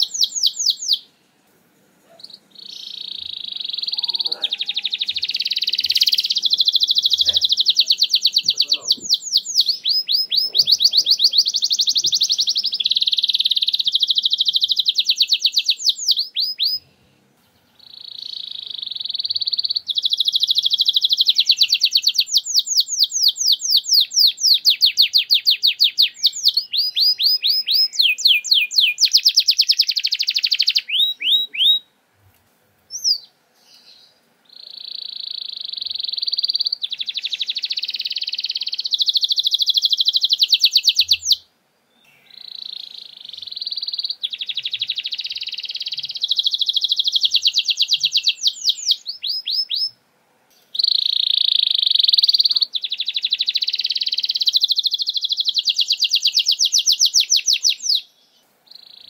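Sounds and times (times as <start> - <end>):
canary singing fast trills: 0.0 - 1.2, 2.0 - 31.9, 32.9 - 59.0.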